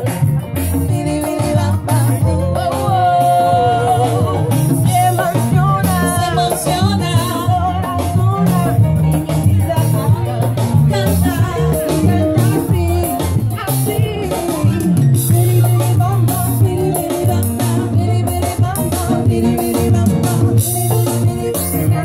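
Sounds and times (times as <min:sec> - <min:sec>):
bass line: 0:00.0 - 0:22.0
drums: 0:00.0 - 0:22.0
woman singing: 0:00.0 - 0:22.0.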